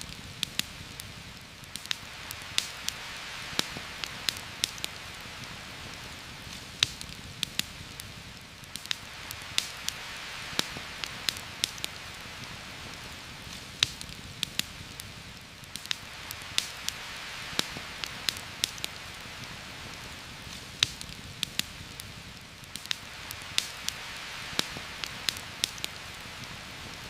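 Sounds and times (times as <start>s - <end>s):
heavy rain on forest canopy: 0.0s - 27.0s
raindrop pops and ticks: 0.0s - 27.0s.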